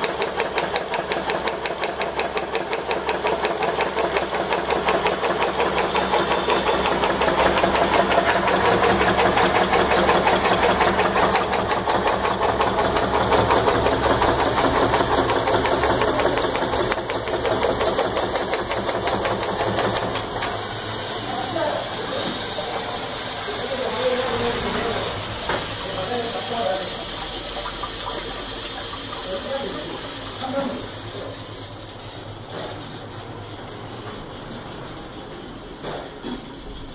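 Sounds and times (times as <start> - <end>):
pressure washer pump running: 0.0 - 36.9.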